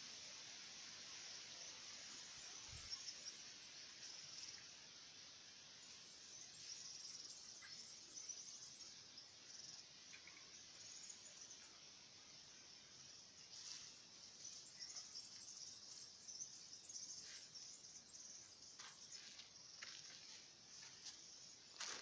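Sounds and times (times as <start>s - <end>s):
insect chirping trills: 0.1s - 22.0s.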